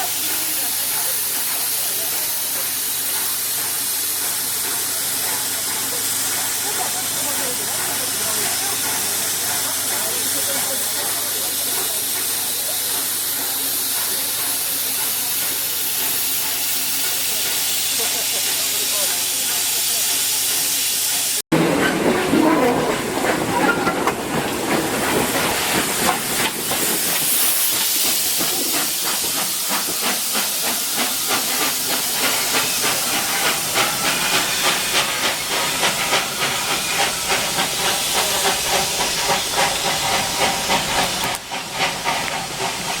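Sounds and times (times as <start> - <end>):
loud hiss of steam: 0.0 - 21.5, 23.8 - 43.0
steam locomotive chuffing: 0.0 - 43.0.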